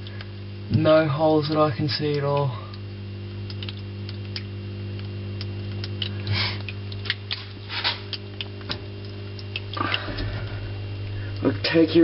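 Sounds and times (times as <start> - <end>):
small ticks: 0.0 - 10.6
pump electric hum: 0.0 - 12.0.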